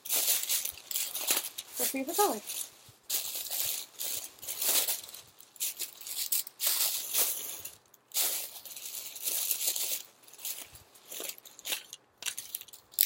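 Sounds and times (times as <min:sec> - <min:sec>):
tissue paper rustling and crinkling: 0:00.0 - 0:12.8.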